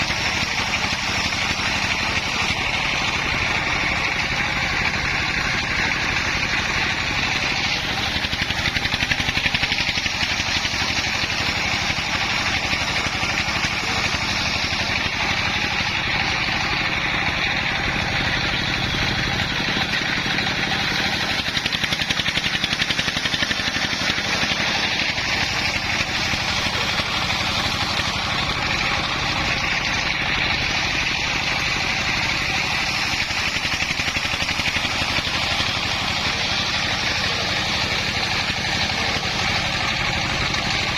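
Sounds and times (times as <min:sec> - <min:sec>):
engine-driven circular saw running: 0:00.0 - 0:40.9.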